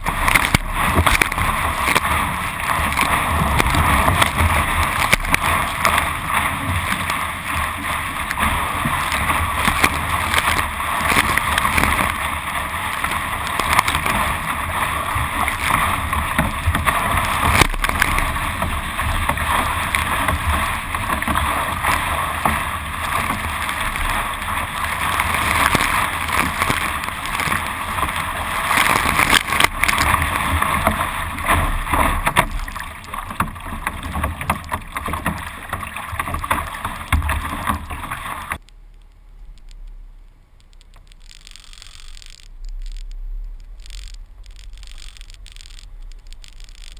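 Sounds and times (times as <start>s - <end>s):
water rushing along boat bow: 0.0s - 38.6s.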